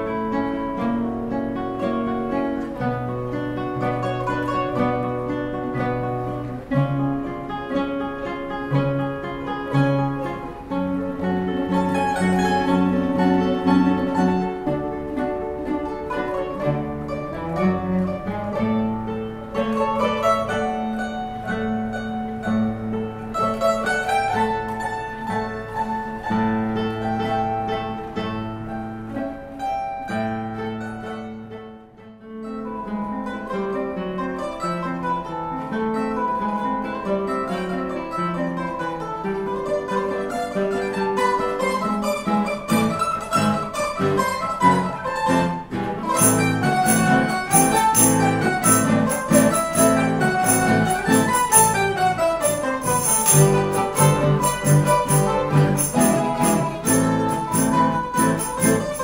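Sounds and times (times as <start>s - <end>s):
mandolins and guitar ensemble: 0.0s - 59.0s.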